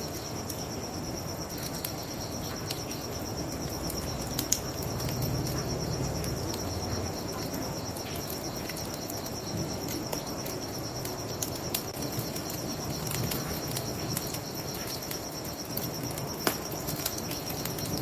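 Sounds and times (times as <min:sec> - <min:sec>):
crickets chirping: 0:00.0 - 0:18.0
wood fire crackling: 0:00.0 - 0:18.0.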